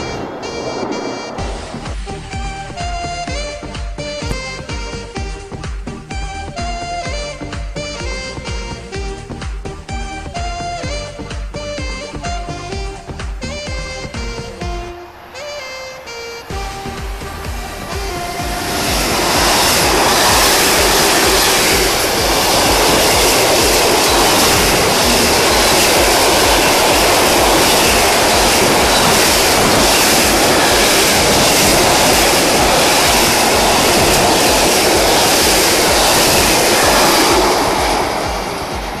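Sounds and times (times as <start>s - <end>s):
freight train passing: 0.0s - 39.0s.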